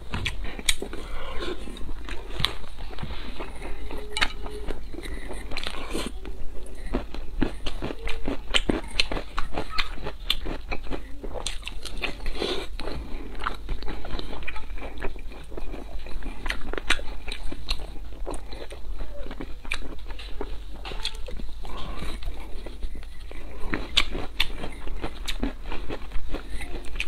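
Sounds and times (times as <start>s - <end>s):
person chewing wet food: 0.0s - 27.0s.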